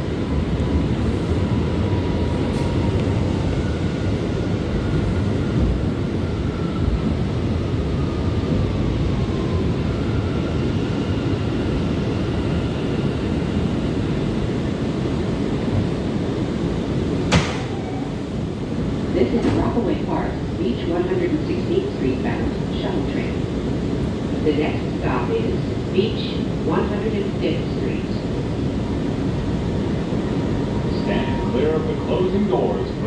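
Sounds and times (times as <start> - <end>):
subway wheels rumbling: 0.0 - 33.0.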